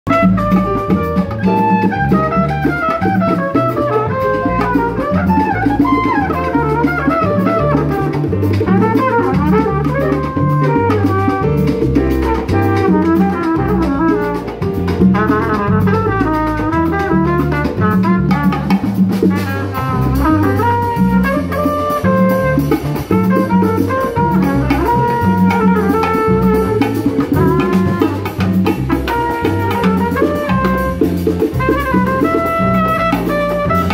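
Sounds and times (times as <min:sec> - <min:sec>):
drum kit and percussion: 0:00.0 - 0:33.9
trumpet and trombone lines: 0:00.1 - 0:33.9.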